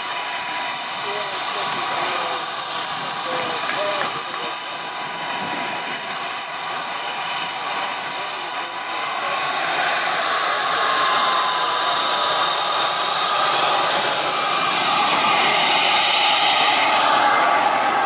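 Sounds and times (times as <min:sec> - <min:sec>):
model jet turbine whining: 0:00.0 - 0:18.0.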